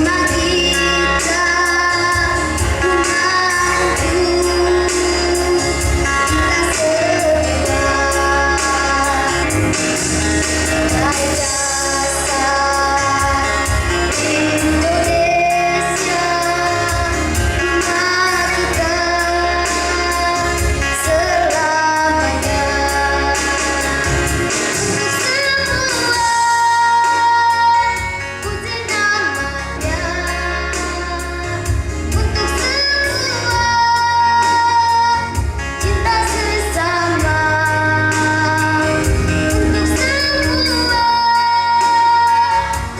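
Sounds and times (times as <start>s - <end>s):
instrumental accompaniment: 0.0s - 42.9s.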